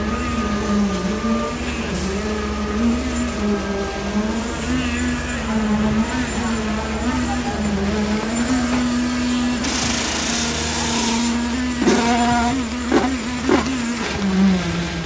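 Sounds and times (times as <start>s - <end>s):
concrete pump engine running: 0.0s - 15.0s.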